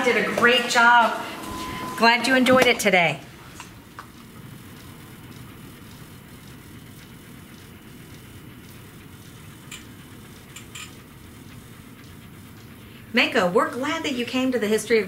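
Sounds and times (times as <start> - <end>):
indoor room hum: 0.0 - 15.0.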